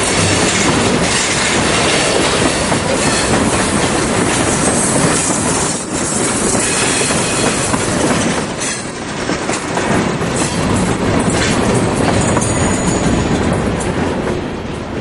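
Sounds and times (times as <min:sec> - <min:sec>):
freight train clattering over rail joints: 0:00.0 - 0:15.0.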